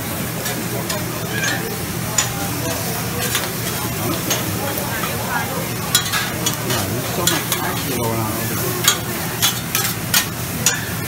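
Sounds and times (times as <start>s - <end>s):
food sizzling on griddle: 0.0s - 11.0s
metal spatulas scraping and clacking: 0.4s - 11.0s.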